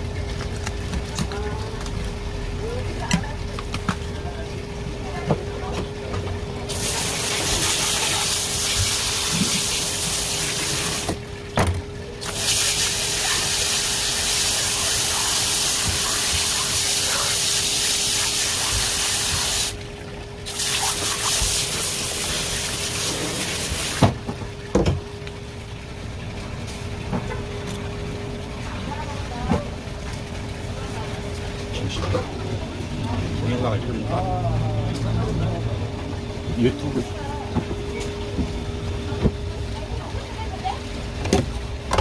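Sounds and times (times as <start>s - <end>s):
water running from a tap: 0.0s - 42.0s.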